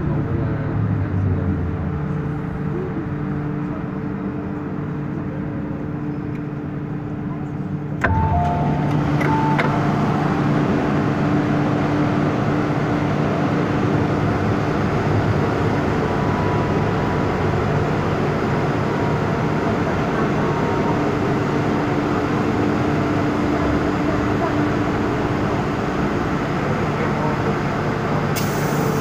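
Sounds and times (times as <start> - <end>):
train rumble and hum on board: 0.0 - 29.0.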